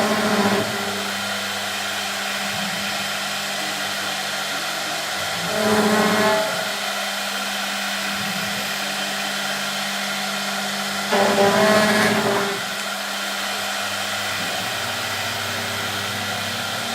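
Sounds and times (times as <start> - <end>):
cnc router spindles whining: 0.0 - 16.9.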